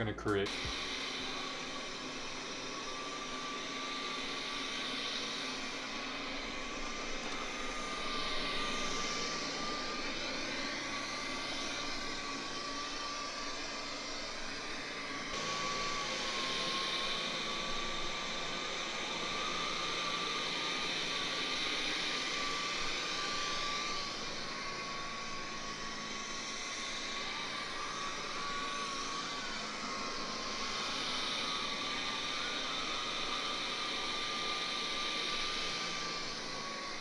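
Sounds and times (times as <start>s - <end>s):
robot vacuum whirring: 0.5s - 37.0s.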